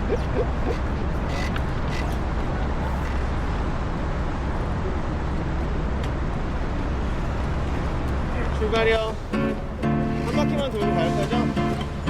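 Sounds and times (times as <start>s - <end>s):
passing cars rumbling: 0.0s - 12.0s.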